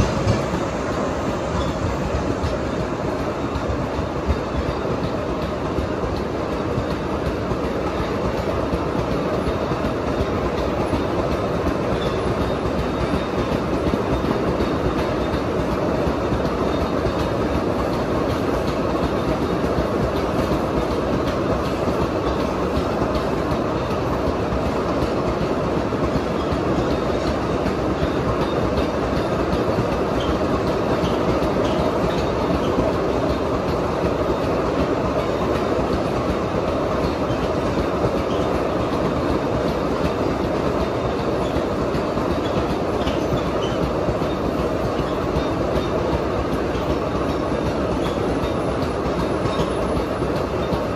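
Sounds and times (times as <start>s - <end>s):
train wheels rolling on rails: 0.0s - 50.9s.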